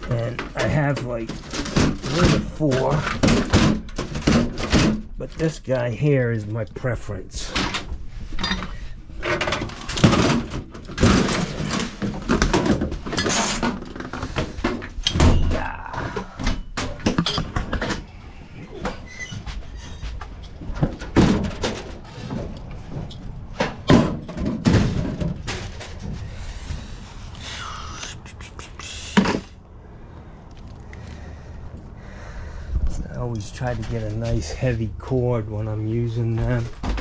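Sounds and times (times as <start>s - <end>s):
door sliding and banging: 0.0s - 5.8s, 7.4s - 27.4s, 33.1s - 37.0s
heavy tools thumping and rattling: 0.0s - 27.2s, 33.0s - 37.0s.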